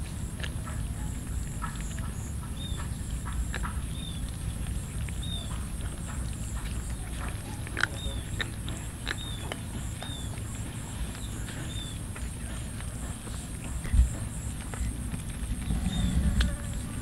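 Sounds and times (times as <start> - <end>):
cats chewing and licking: 0.0 - 17.0
steady high-pitched hum: 0.0 - 17.0.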